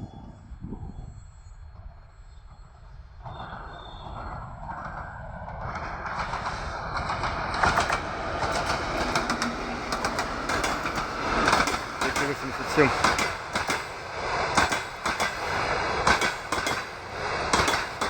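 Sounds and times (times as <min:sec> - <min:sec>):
diesel locomotive engine drone: 0:00.0 - 0:18.0
train wheels clicking over rails: 0:03.2 - 0:18.0.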